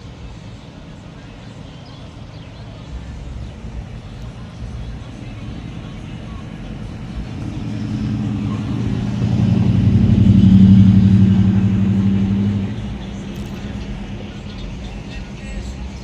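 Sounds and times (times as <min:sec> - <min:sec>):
vehicle engine passing by: 0:02.7 - 0:16.0.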